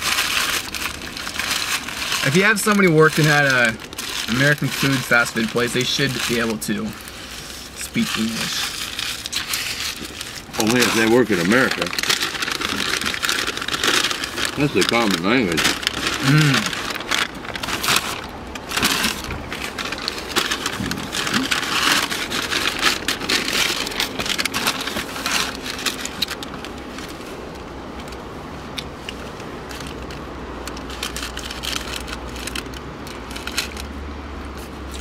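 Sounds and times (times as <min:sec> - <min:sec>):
paper bag rustling and crinkling: 0:00.0 - 0:35.0.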